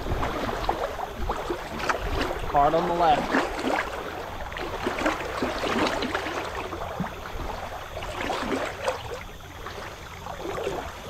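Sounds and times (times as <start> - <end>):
water splashing against kayak: 0.0 - 11.0.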